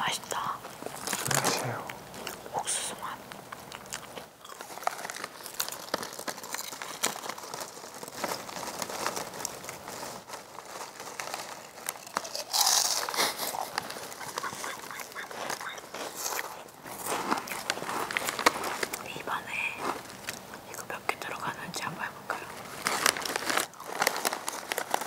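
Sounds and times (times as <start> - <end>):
foil chip bag crinkling: 0.3 - 2.4, 3.0 - 25.0
chips crunching in mouth: 0.4 - 20.9, 22.6 - 25.0.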